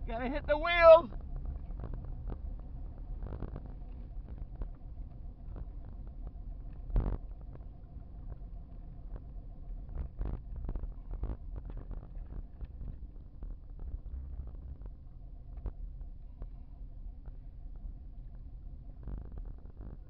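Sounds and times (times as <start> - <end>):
vehicle rumble from inside cabin: 0.0 - 20.0.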